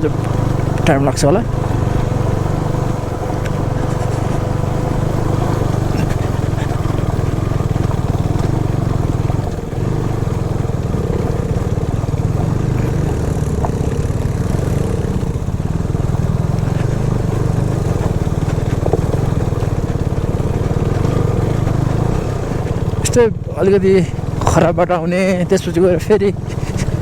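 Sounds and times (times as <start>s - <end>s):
motorcycle engine rumbling: 0.0s - 27.0s.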